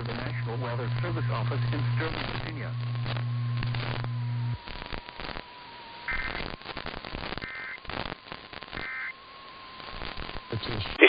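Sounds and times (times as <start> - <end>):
crackling radio static: 0.0 - 11.0.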